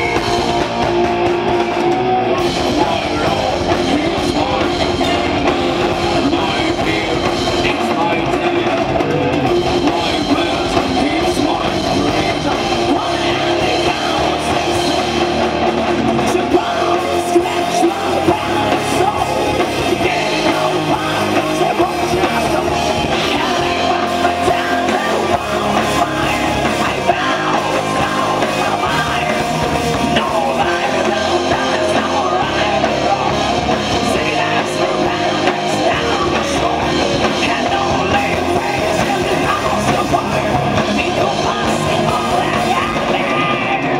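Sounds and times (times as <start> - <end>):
drums: 0.0 - 43.9
electric guitars: 0.0 - 43.9.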